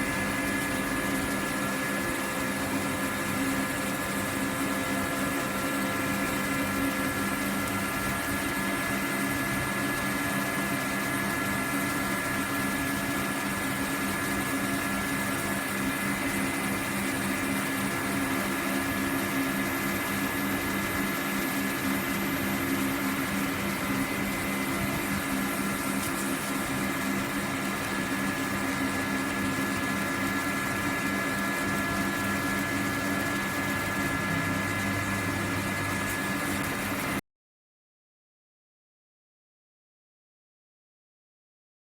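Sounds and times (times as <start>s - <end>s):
machine hum: 0.0s - 18.3s, 20.4s - 37.2s.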